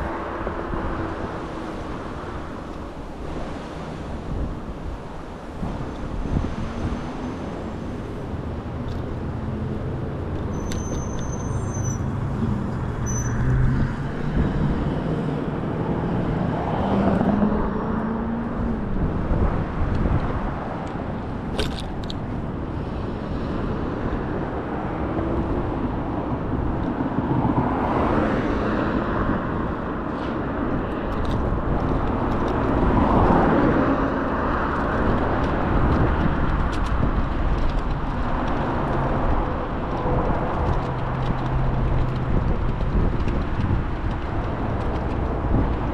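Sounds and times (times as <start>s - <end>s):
low rumble of road traffic: 0.0s - 45.9s.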